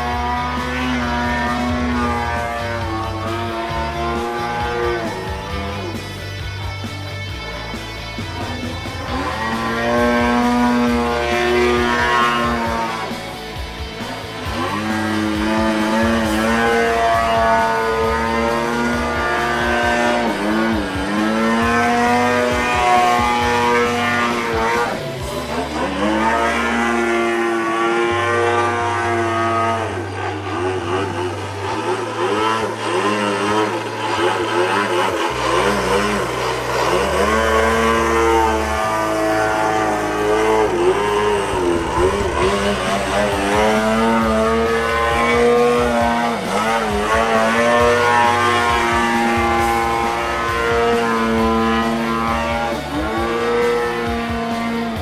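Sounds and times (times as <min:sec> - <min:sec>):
model aircraft engine: 0:00.0 - 0:55.0.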